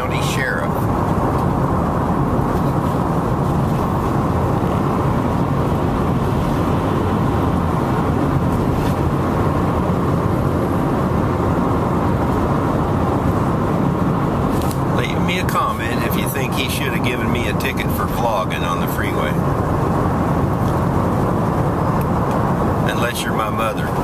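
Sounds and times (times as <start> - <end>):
road and engine noise in car cabin: 0.0 - 24.0.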